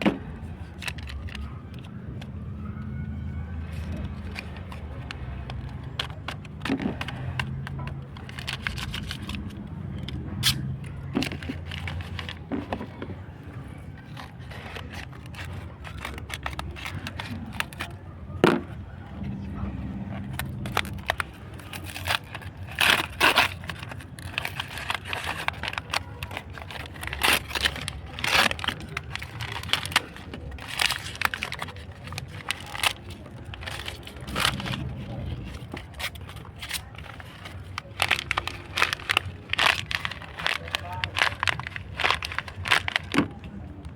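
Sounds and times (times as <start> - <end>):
packaging rustling and crinkling: 0.0 - 43.9.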